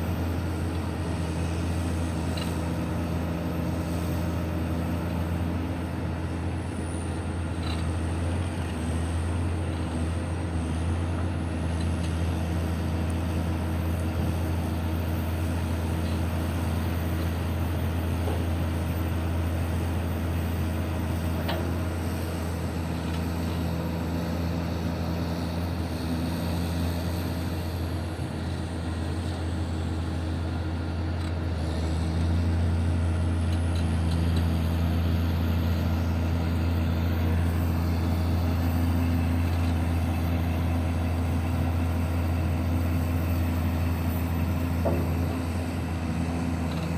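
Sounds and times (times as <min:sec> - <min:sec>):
heavy diesel engine droning: 0:00.0 - 0:46.9.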